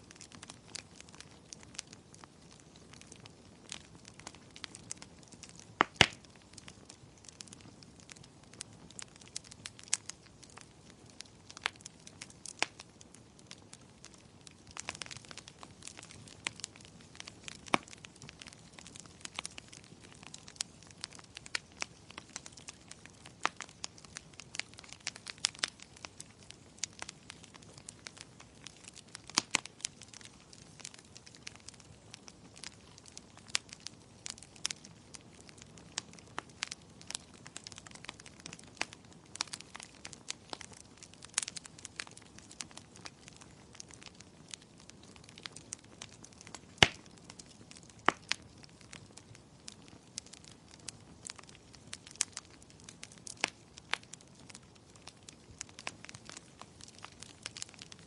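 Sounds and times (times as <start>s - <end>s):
faint steady hiss: 0.0s - 58.0s
wood fire crackling and popping: 0.0s - 58.0s.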